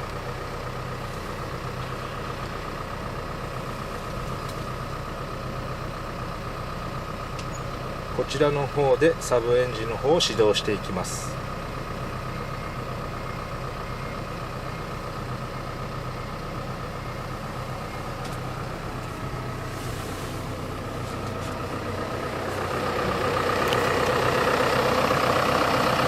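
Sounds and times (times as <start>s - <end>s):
truck auxiliary engine running: 0.0s - 26.0s.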